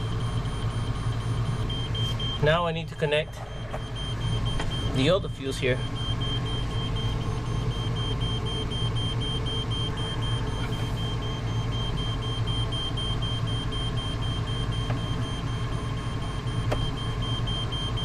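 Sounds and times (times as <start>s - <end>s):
high-pitched alarm beeping: 0.0s - 18.0s
low hum: 0.0s - 18.0s.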